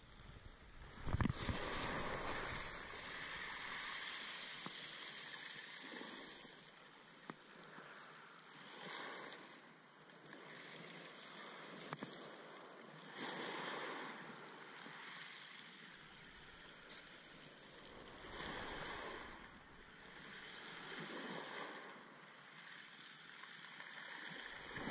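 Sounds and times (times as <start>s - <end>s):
fishing reel whirring rattle: 0.0s - 24.9s.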